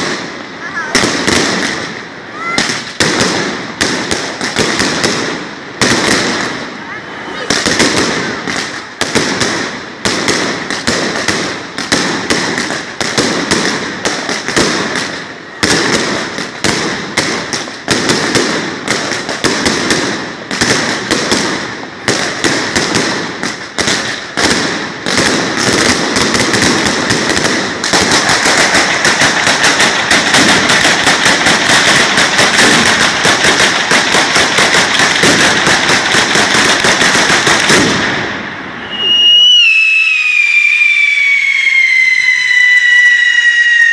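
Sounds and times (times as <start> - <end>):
firecrackers going off: 0.0 - 43.9.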